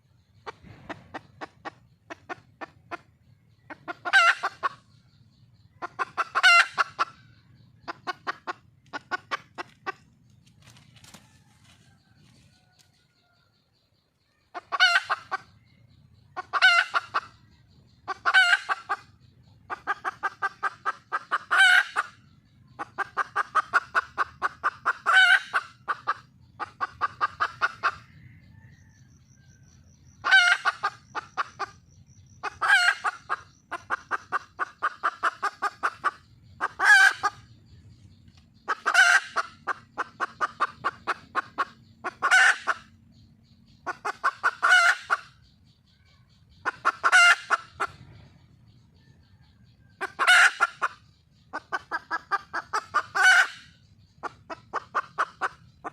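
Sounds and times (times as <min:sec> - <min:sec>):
hen clucking rapidly: 0:00.0 - 0:55.9.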